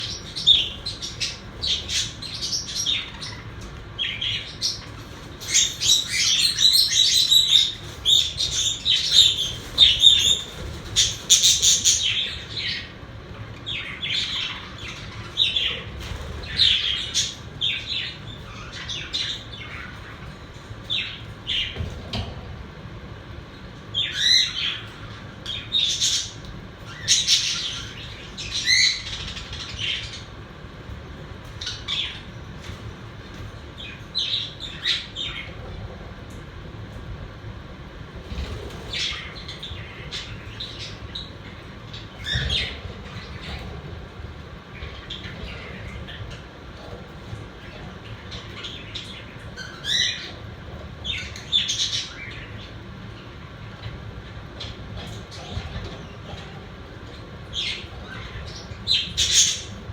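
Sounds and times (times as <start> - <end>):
budgerigars chirping and squawking: 0.0 - 22.3, 24.0 - 35.7, 38.2 - 53.4, 54.4 - 59.9.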